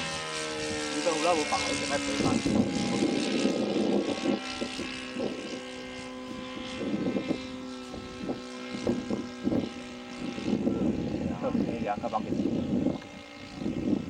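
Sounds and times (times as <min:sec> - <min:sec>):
model airplane engine droning: 0:00.0 - 0:14.0.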